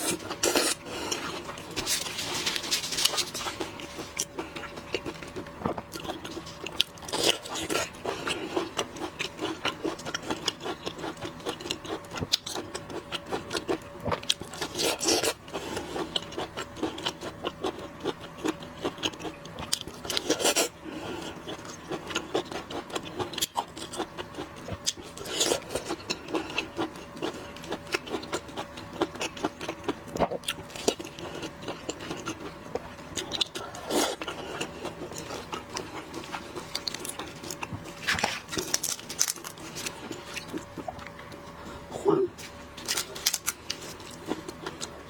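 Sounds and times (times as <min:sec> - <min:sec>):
chewing and crunching shrimp: 0:00.0 - 0:45.0.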